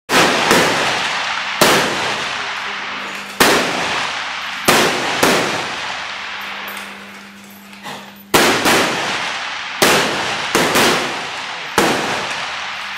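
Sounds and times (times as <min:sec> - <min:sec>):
rifle shots: 0:00.1 - 0:07.4, 0:08.3 - 0:12.9.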